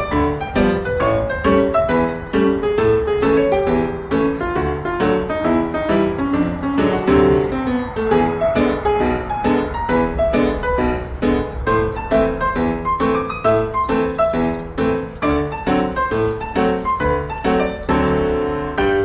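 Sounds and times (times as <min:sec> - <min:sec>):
quick piano piece: 0:00.0 - 0:19.0.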